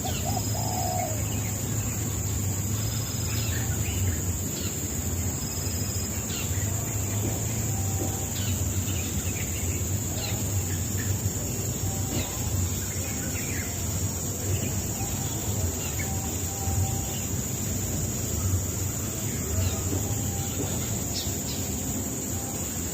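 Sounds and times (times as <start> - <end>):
high-pitched hiss: 0.0 - 22.9.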